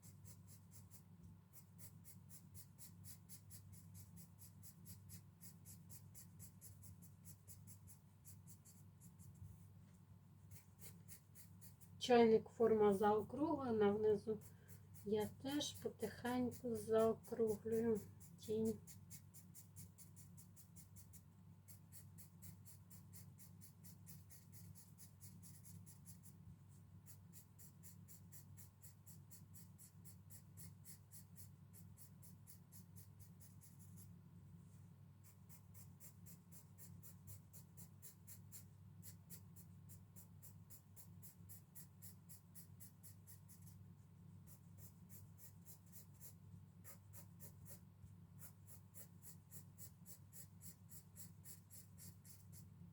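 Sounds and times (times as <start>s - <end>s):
pencil scratching on paper: 0.0s - 52.9s.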